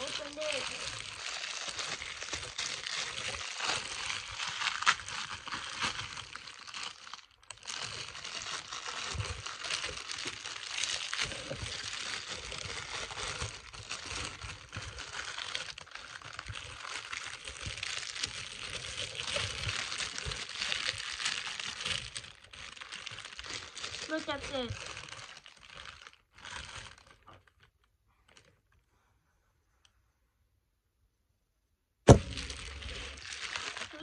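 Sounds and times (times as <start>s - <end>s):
plastic packaging crinkling: 0.0s - 28.8s, 32.1s - 34.0s.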